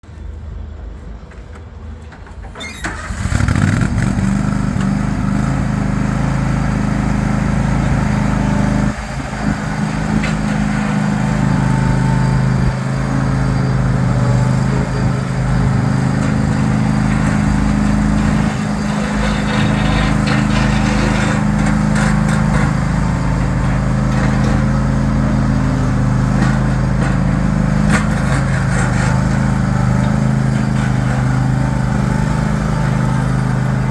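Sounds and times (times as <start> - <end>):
lawn tractor engine: 2.3 - 33.9.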